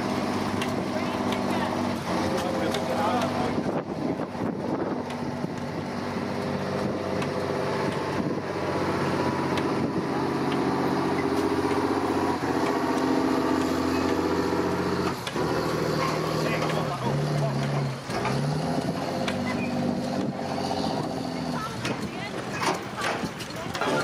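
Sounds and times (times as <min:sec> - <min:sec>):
truck engine pulling hard: 0:00.0 - 0:24.0.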